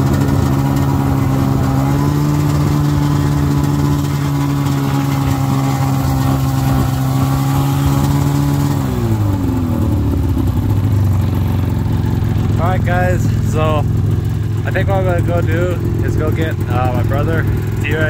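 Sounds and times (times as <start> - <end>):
snowmobile engine running: 0.0 - 18.0.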